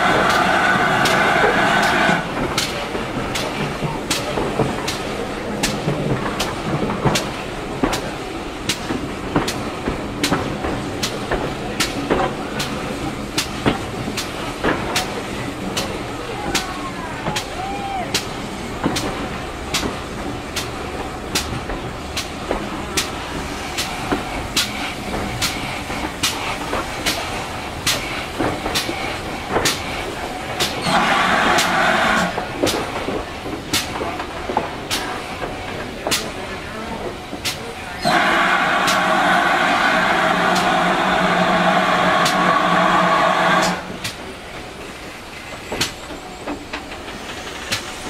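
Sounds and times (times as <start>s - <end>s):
loud steam hiss: 0.0s - 48.0s
steam engine running slowly: 0.0s - 48.0s.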